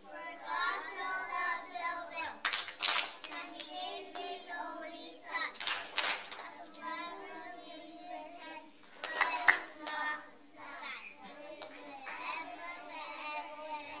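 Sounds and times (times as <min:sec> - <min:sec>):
children's voices: 0:00.0 - 0:02.4, 0:03.3 - 0:05.7, 0:06.3 - 0:14.0.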